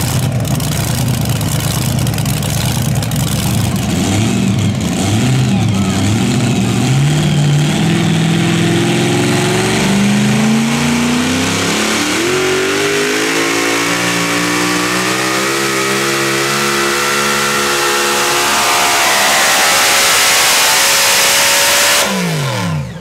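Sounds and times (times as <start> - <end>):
engine running hard rising pitch: 3.1 - 23.0.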